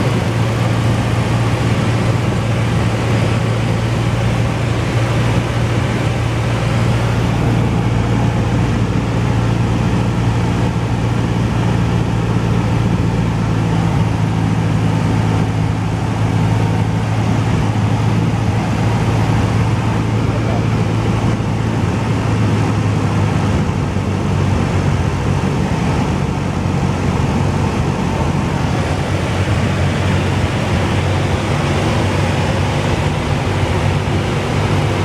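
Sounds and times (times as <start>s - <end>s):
propeller plane engine droning: 0.0s - 35.0s.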